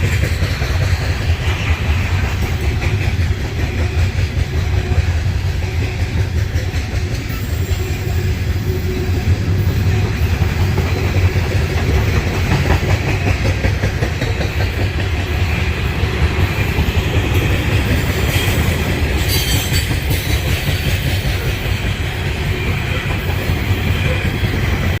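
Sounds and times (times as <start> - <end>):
train wheels rumbling and clicking: 0.0 - 25.0.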